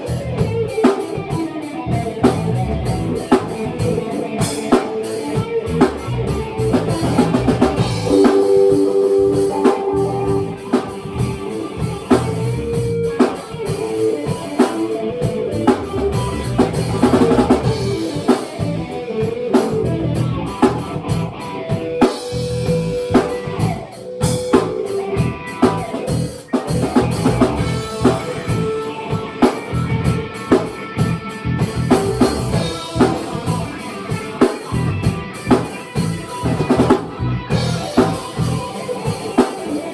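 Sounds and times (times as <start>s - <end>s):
drum kit beat: 0.0s - 39.9s
sustained electric guitar notes: 0.0s - 39.9s.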